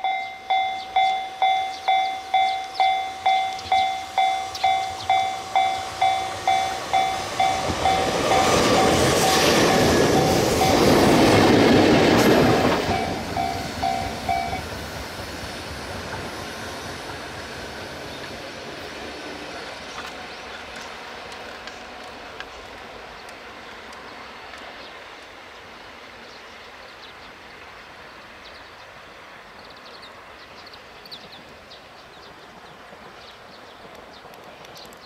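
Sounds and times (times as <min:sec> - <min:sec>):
train rolling along rails: 0:00.0 - 0:35.0.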